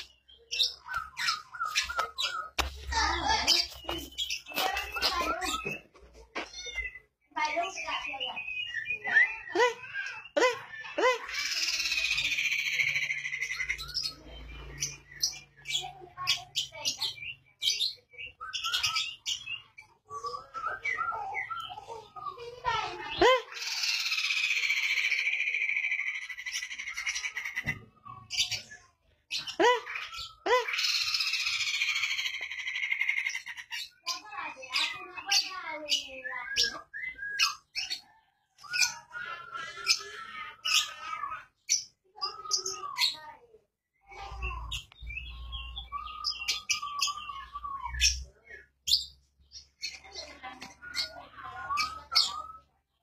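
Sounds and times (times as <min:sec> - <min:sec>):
lovebird chirping and squeaking: 0:00.0 - 0:53.0.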